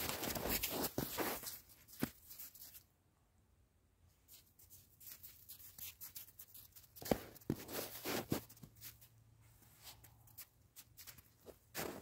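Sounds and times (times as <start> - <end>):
footsteps crunching in snow: 0.0 - 2.8, 4.3 - 12.0.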